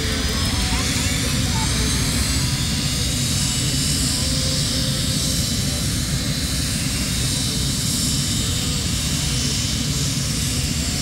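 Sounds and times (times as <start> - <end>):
airplane engines rumbling: 0.0 - 11.0.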